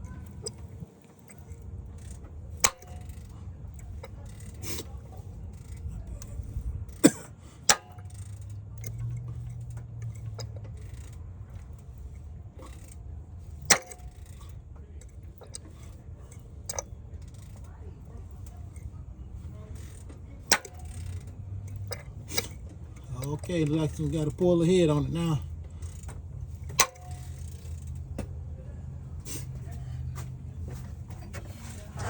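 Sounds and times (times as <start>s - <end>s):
engine running with low rumble: 0.0s - 32.0s.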